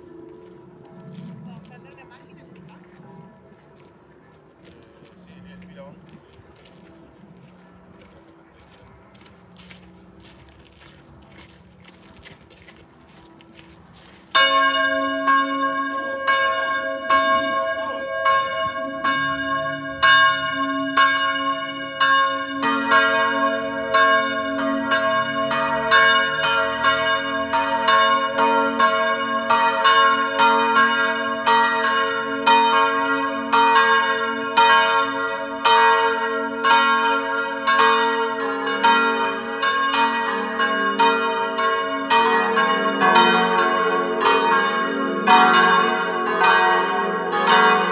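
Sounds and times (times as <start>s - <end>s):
church bells pealing: 0.0s - 4.3s, 5.0s - 47.9s.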